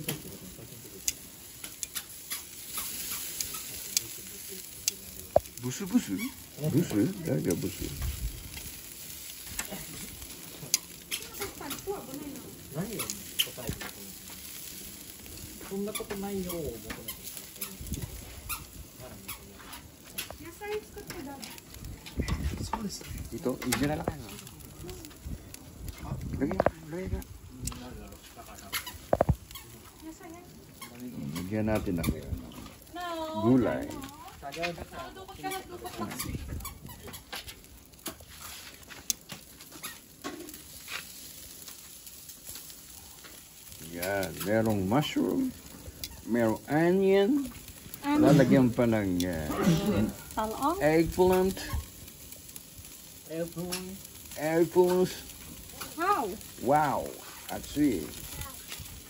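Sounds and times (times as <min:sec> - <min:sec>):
meat sizzling on grill: 0:00.0 - 0:59.0.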